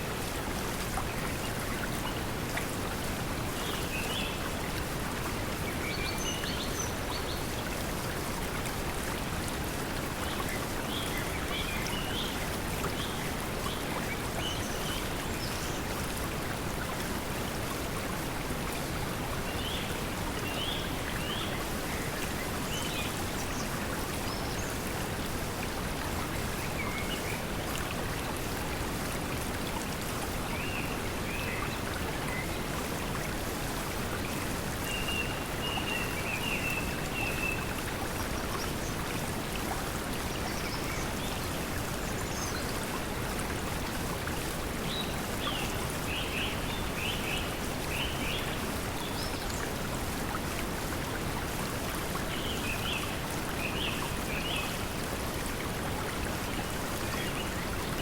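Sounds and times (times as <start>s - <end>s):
flowing water: 0.0s - 58.0s.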